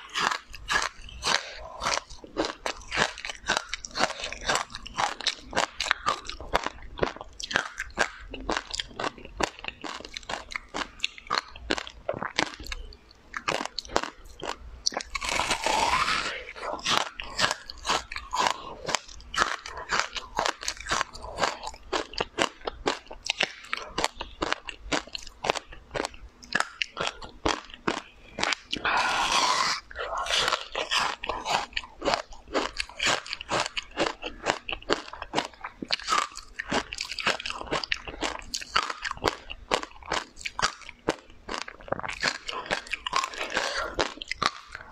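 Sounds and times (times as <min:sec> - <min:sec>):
crunching and chewing food: 0:00.0 - 0:44.9.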